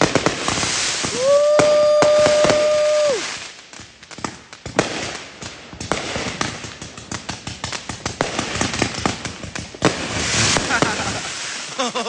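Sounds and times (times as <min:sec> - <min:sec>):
loud firework bangs: 0:00.0 - 0:11.8
fireworks popping and crackling: 0:00.0 - 0:12.0.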